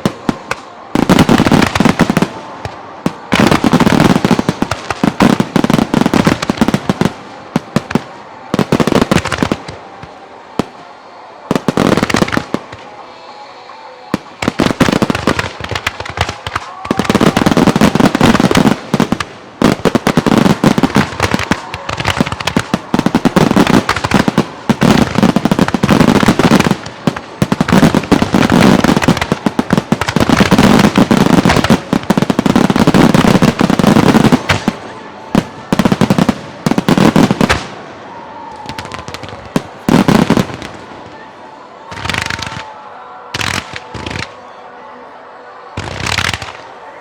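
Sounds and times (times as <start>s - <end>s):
fireworks bursting with crackle: 0.0s - 10.8s, 11.4s - 44.4s, 45.7s - 46.8s.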